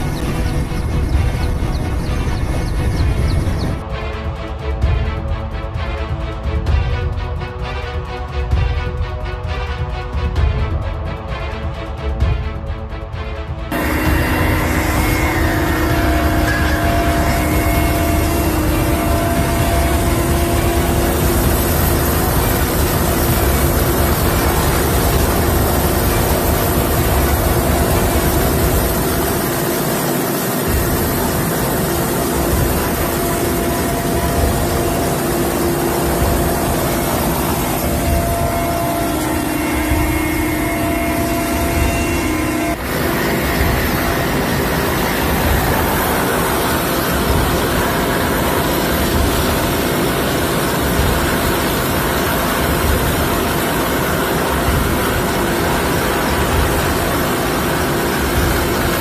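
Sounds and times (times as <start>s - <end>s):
helicopter engine and rotor: 0.0s - 59.0s
helicopter whine: 0.0s - 59.0s.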